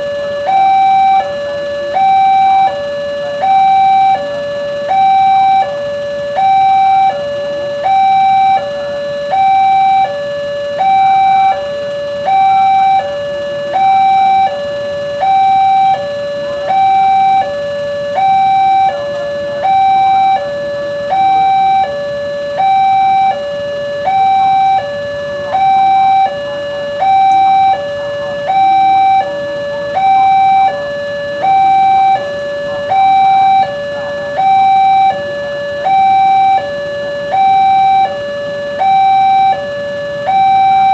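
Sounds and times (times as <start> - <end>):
level crossing two-tone alarm: 0.0 - 40.9.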